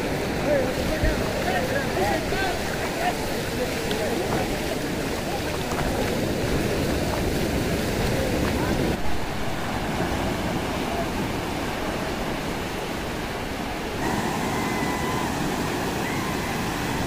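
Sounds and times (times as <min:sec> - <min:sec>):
surf breaking on beach: 0:00.0 - 0:17.0.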